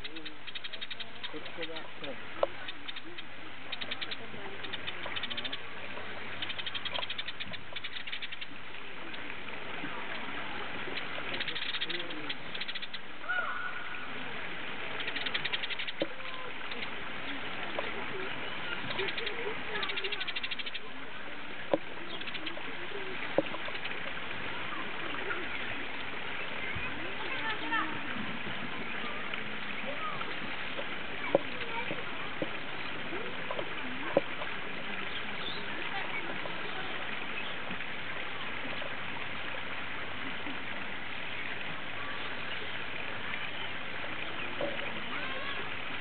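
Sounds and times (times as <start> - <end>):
sparrows chirping: 0.0 - 14.2, 14.9 - 38.7, 40.3 - 45.8
distant people talking: 0.0 - 46.0
steady background hiss: 0.0 - 46.0.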